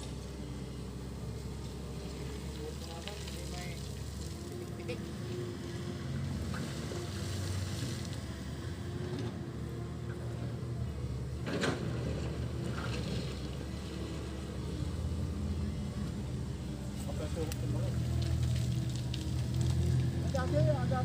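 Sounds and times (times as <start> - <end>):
excavator diesel engine rumbling: 0.0 - 21.0.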